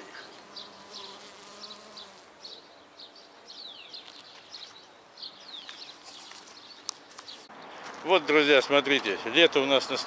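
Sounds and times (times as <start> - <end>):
small birds chirping: 0.0 - 8.9
faint background noise: 0.0 - 10.0.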